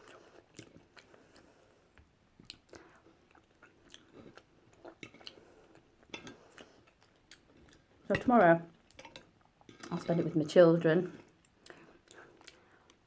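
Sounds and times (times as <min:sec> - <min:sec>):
faint chewing of food: 0:00.0 - 0:10.4, 0:11.0 - 0:13.0.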